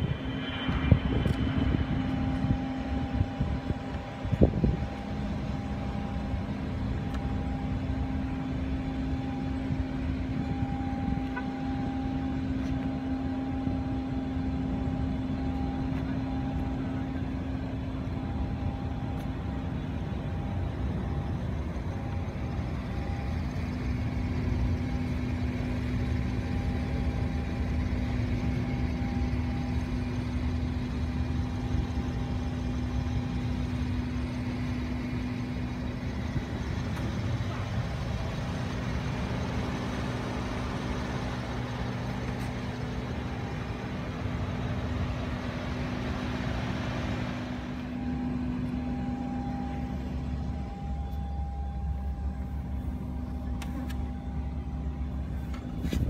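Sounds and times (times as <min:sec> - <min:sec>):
car engine idling: 0:00.0 - 0:56.0
high steady whine: 0:00.0 - 0:56.0.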